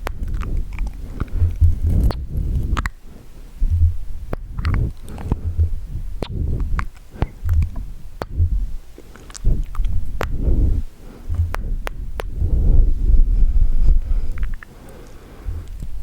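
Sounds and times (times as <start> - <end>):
tongue and lip clicks: 0.0 - 3.0, 3.6 - 12.8, 14.3 - 16.0
low muffled rumbles: 0.0 - 16.0.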